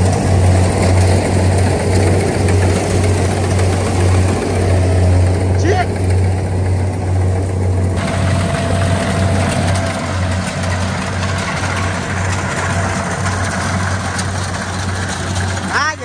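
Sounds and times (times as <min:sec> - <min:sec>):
harvester engine humming: 0:00.0 - 0:16.0.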